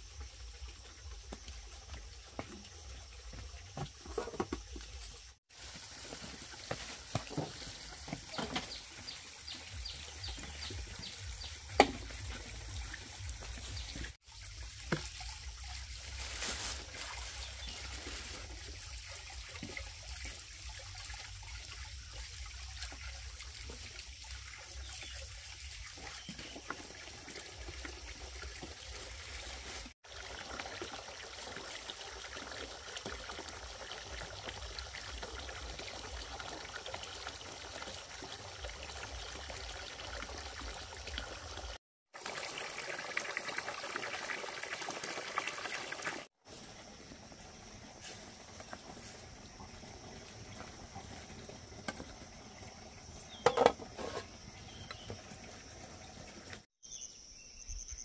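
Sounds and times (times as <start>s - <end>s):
water trickling and pouring: 0.0s - 56.7s.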